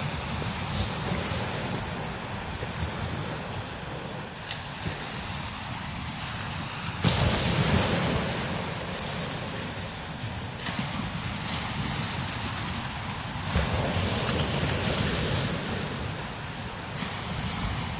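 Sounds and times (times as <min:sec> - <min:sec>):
strong wind blowing: 0:00.0 - 0:17.9
wind buffeting microphone: 0:00.0 - 0:17.9.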